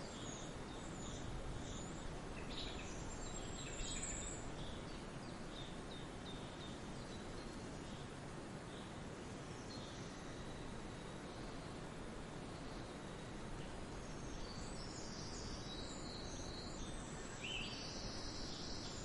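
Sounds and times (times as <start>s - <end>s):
background hiss: 0.0s - 19.0s
small birds chirping: 0.0s - 19.0s.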